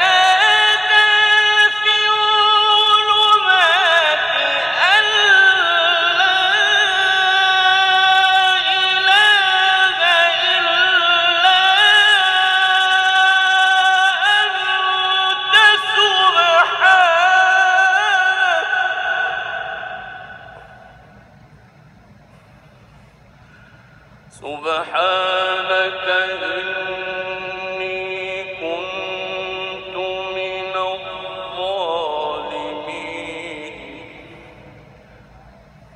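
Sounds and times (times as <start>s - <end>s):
man reciting melodically: 0.0s - 21.0s, 23.9s - 35.0s.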